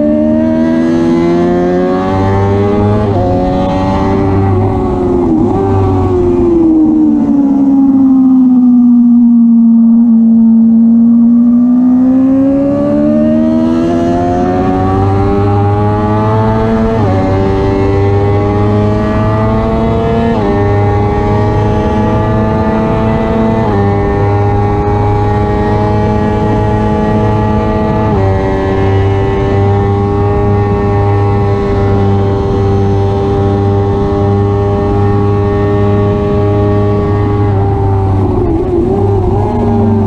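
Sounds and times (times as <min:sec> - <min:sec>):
wind rush: 0:00.0 - 0:10.9, 0:12.3 - 0:40.0
motorcycle engine accelerating: 0:00.0 - 0:40.0.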